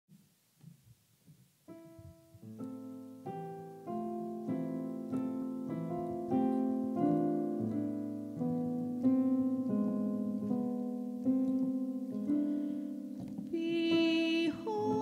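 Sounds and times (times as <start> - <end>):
instrumental music chords: 1.6 - 15.0.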